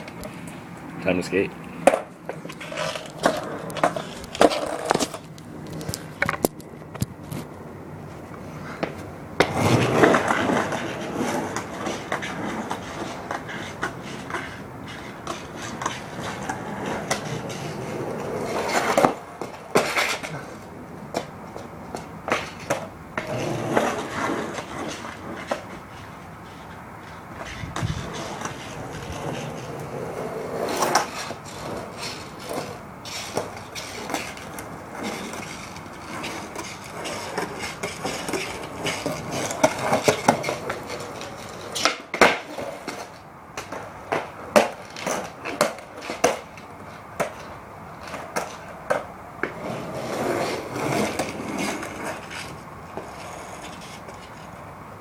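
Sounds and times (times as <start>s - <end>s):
skateboard clacking: 0.0s - 55.0s
skateboard wheels rumbling: 0.0s - 55.0s.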